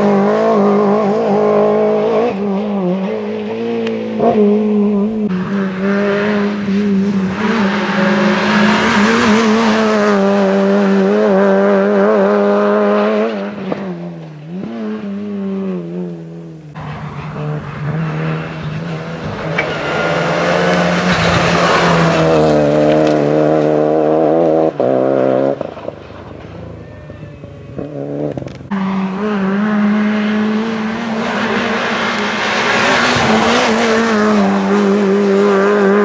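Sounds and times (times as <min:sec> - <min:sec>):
rally cars revving past: 0:00.0 - 0:36.0.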